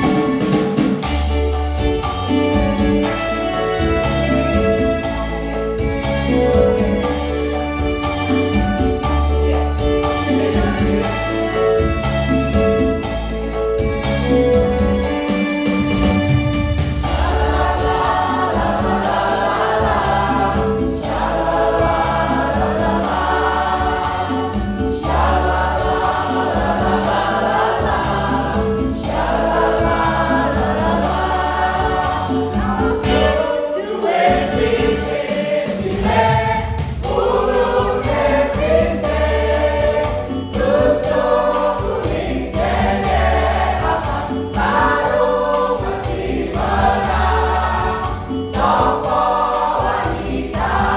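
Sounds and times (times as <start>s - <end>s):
choir singing: 0.0s - 13.5s, 14.2s - 50.9s
instrumental accompaniment: 0.0s - 50.9s.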